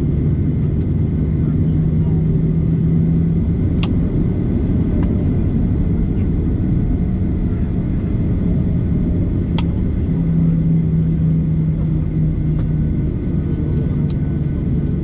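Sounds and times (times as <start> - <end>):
aircraft cabin rumble and hum: 0.0 - 15.0.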